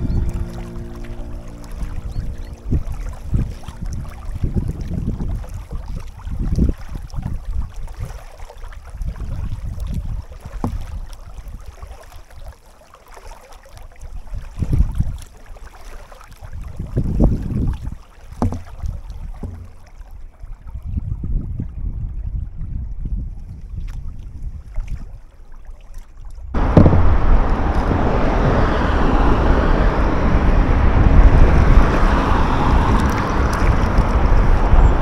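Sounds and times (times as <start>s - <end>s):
wind buffeting microphone: 0.0s - 8.2s, 8.9s - 11.8s, 14.3s - 15.2s, 16.5s - 25.2s, 26.5s - 35.0s.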